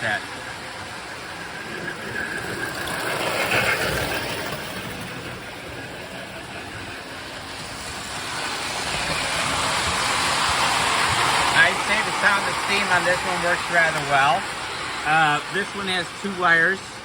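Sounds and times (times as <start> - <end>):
toy steam train chuffing hiss: 0.0 - 17.0
toy train motor and wheels: 0.0 - 17.0.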